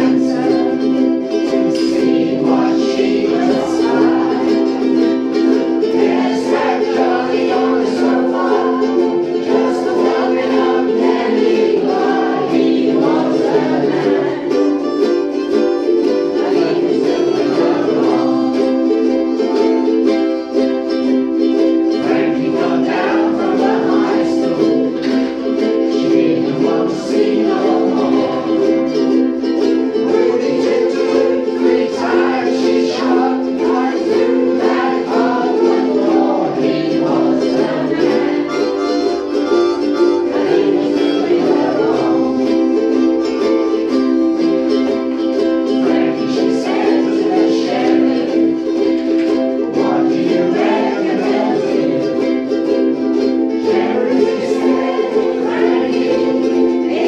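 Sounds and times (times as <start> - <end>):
ukuleles strumming chords: 0.0 - 57.0.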